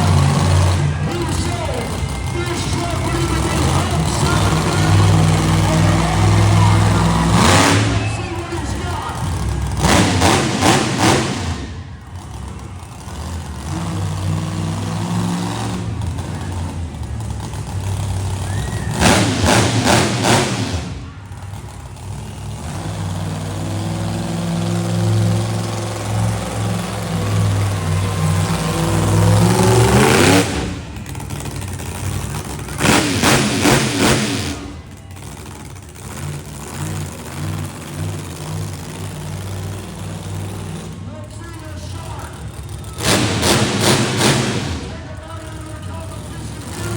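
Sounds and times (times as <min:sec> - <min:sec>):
large engine revving: 0:00.0 - 0:46.9.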